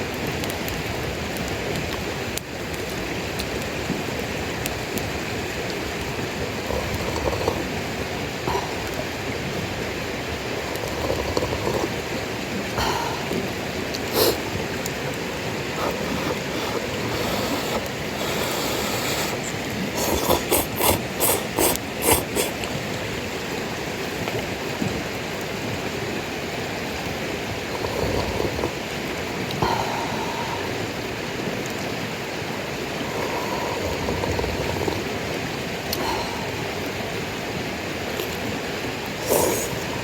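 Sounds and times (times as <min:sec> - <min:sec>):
campfire hissing: 0:00.0 - 0:40.0.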